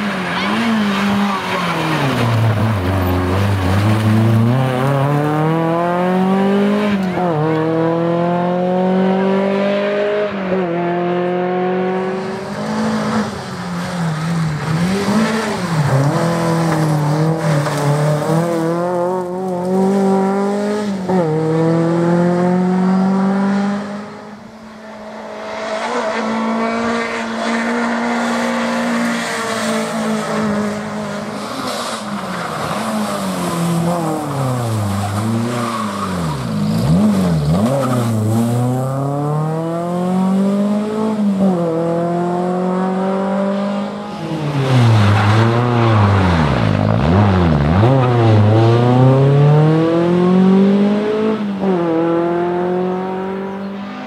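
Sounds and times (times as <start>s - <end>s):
rally car engine accelerating: 0.0s - 54.0s.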